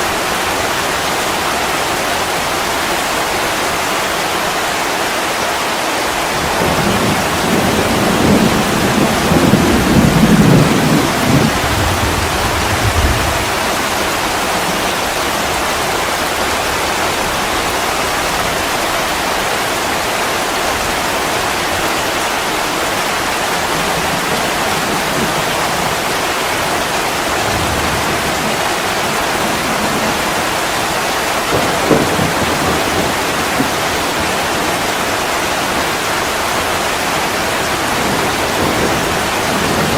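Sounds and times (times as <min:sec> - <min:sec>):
steady rain: 0:00.0 - 0:39.9
thunder rumbling: 0:06.3 - 0:19.5, 0:20.7 - 0:39.9.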